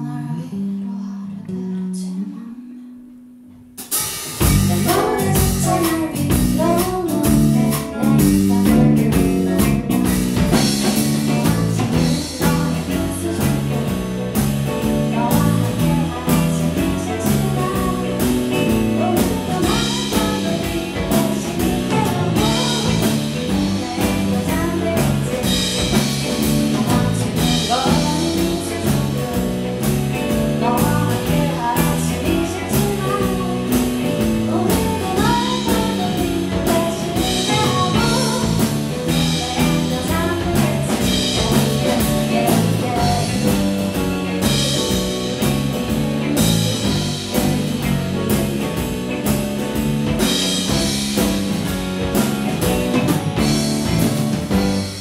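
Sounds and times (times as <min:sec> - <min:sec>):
woman singing: 0:00.0 - 0:03.2, 0:04.4 - 0:51.8.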